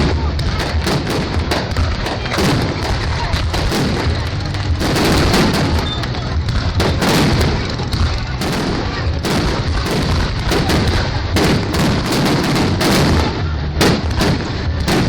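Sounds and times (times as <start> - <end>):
fireworks bursting with bangs: 0.0 - 15.0
low rumble: 0.0 - 15.0.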